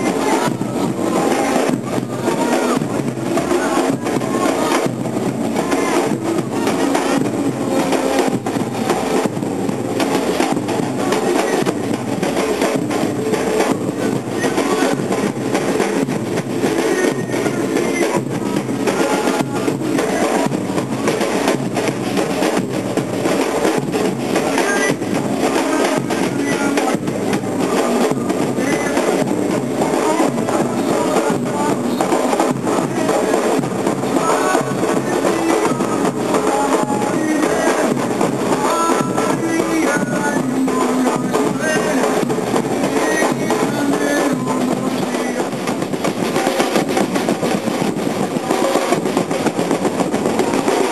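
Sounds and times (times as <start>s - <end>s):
bass drums beaten with sticks: 0.0s - 50.9s
percussion band drumming: 0.0s - 50.9s.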